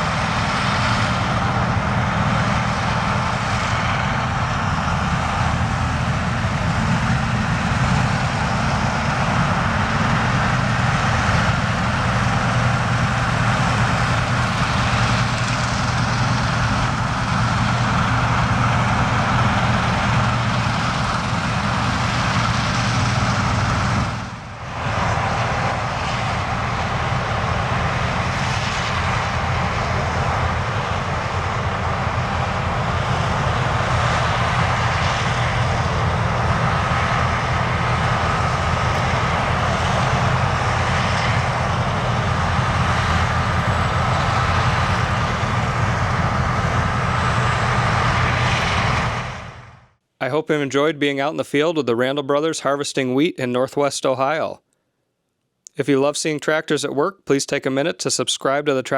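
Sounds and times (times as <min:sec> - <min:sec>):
combine harvester engine hum: 0:00.0 - 0:51.9.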